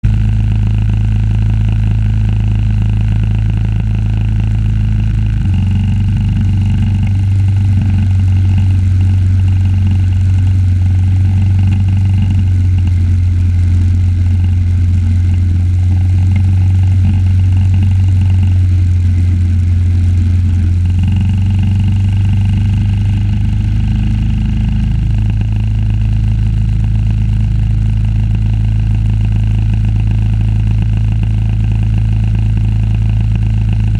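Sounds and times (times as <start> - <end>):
engine running under load: 0.0 - 33.9.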